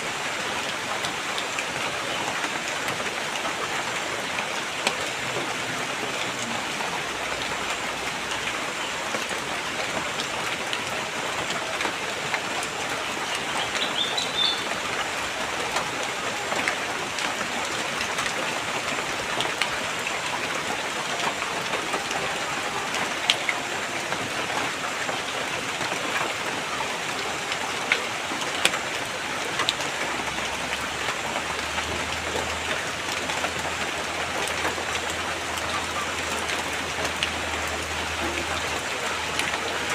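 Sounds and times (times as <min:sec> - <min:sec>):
steady rain: 0:00.0 - 0:39.9
raindrops ticking: 0:00.2 - 0:39.9.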